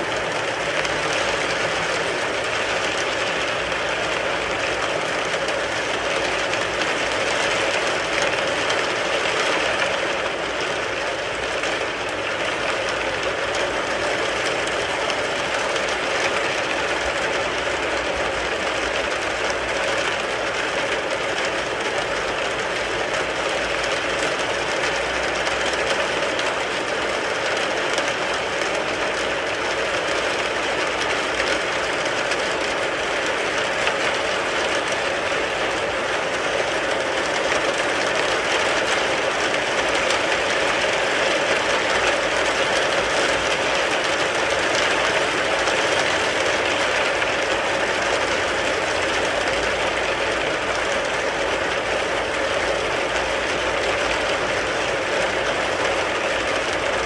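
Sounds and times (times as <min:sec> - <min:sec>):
rain pattering on a car: 0:00.0 - 0:57.0.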